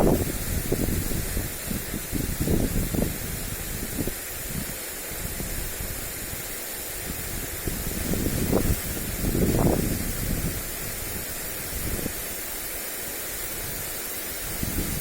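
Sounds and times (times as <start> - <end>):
wind rumbling on microphone: 0.0 - 12.4, 13.4 - 15.0
lawn sprinkler spraying water: 0.0 - 15.0.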